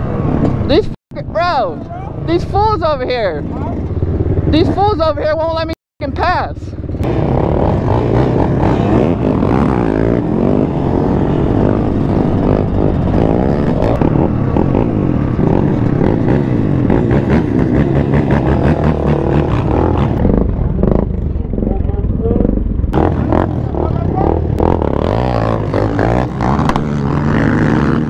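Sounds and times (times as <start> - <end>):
dirt bike engine revving: 0.2 - 28.0.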